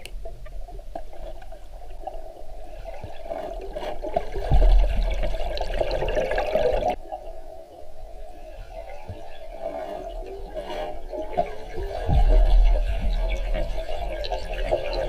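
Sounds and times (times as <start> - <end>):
water gurgling and rushing: 0.3 - 15.0.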